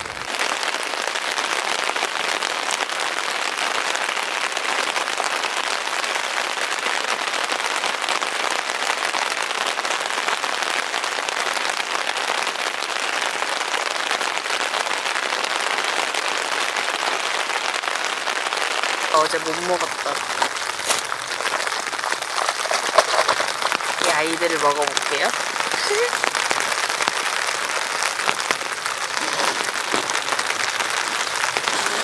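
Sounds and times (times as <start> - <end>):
rain on tent fabric: 0.0 - 32.0.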